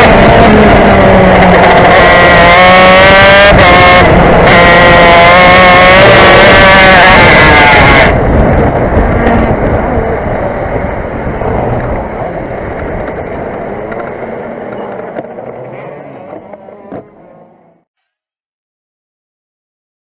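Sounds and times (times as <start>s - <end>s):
two-stroke kart engine: 0.0s - 17.8s
kart rumbling and rattling: 0.0s - 17.9s.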